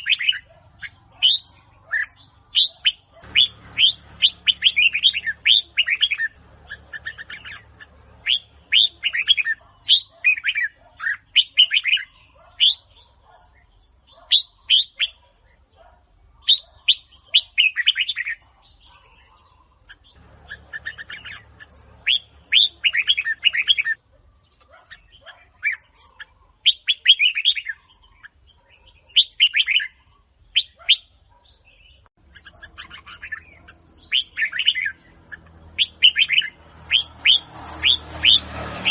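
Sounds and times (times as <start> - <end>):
bird singing whistled notes: 0.0 - 15.2, 16.4 - 38.9.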